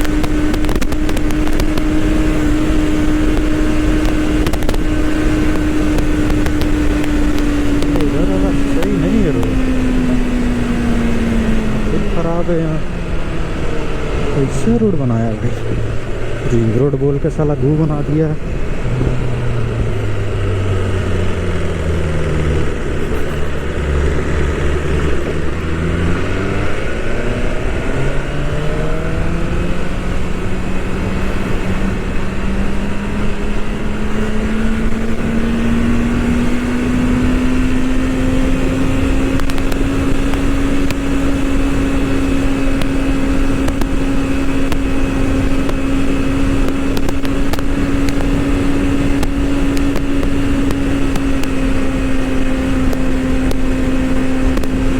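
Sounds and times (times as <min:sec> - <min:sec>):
wind noise on microphone: 0:00.0 - 0:14.5, 0:18.3 - 0:54.9
motorcycle engine running: 0:00.0 - 0:54.9.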